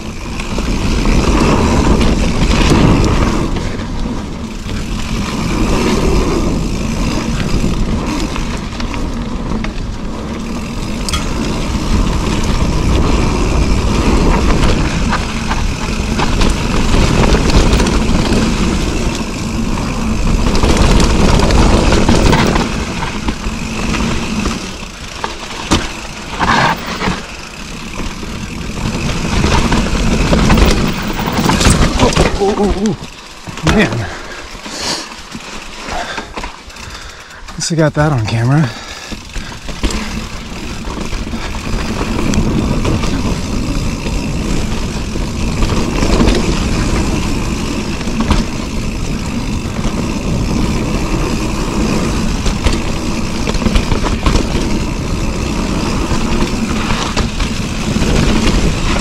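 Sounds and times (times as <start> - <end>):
bike clattering: 0.0 - 59.0
tyres rumbling on dirt: 0.0 - 59.0.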